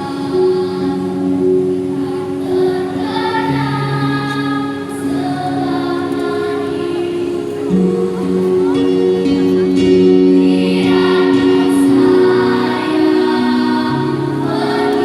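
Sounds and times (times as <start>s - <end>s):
children's choir singing in harmony: 0.0s - 15.0s.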